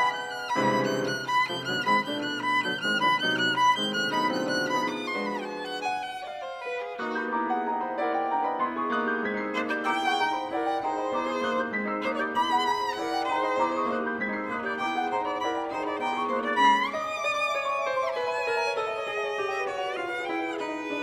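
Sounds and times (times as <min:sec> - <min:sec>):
piano accompaniment: 0:00.0 - 0:21.0
violin melody: 0:00.0 - 0:21.0.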